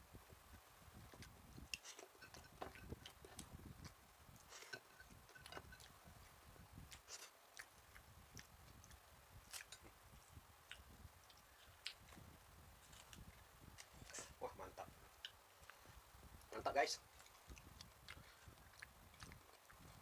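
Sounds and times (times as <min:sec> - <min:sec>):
person chewing food: 0:01.0 - 0:14.2, 0:15.1 - 0:16.5, 0:17.1 - 0:20.0.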